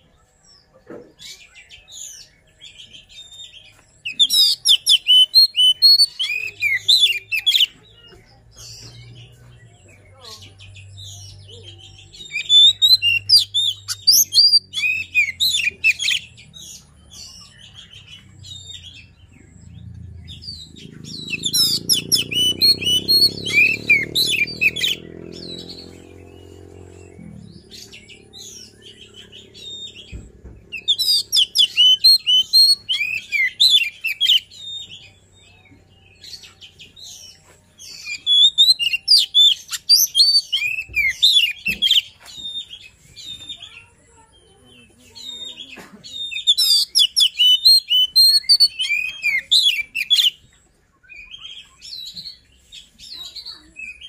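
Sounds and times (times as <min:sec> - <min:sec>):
magpie-robin singing: 0:00.0 - 0:54.0.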